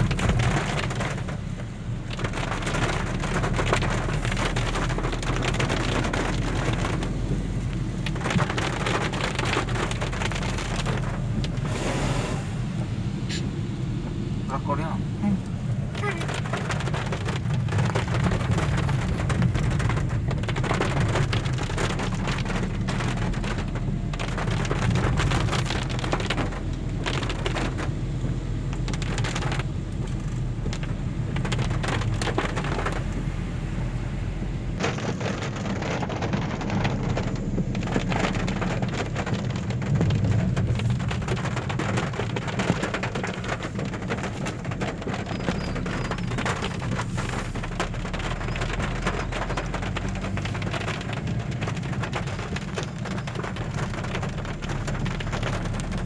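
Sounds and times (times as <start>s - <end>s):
rain pattering on car roof: 0.0s - 12.0s, 12.6s - 56.0s
car road and engine rumble: 0.0s - 56.0s.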